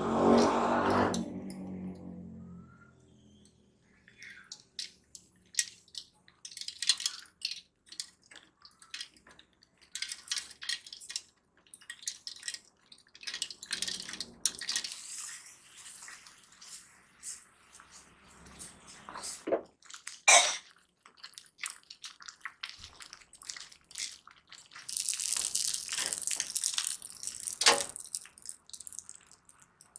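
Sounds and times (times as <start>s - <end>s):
slime squelching by hand: 4.0s - 29.9s.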